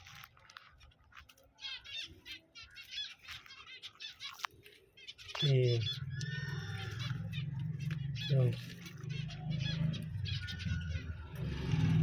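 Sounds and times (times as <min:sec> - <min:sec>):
finches chirping: 0:00.1 - 0:12.0.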